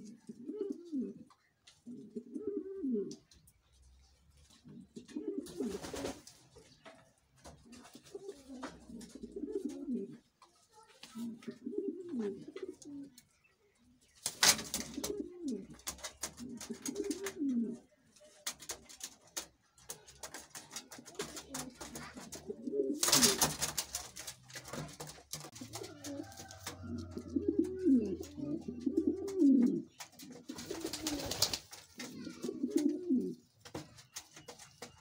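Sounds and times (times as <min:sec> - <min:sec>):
pigeons cooing: 0:00.0 - 0:03.4, 0:04.6 - 0:06.2, 0:07.6 - 0:10.3, 0:11.2 - 0:13.4, 0:14.4 - 0:18.0, 0:19.9 - 0:35.0.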